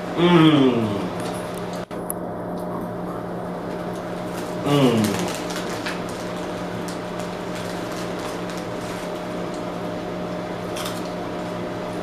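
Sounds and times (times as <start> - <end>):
appliance hum with whine: 0.0 - 12.0.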